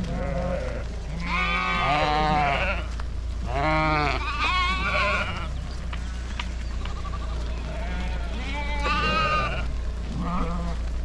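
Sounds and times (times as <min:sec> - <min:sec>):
sheep bleating: 0:00.0 - 0:05.6, 0:06.6 - 0:11.0
steady low hum: 0:00.0 - 0:11.0.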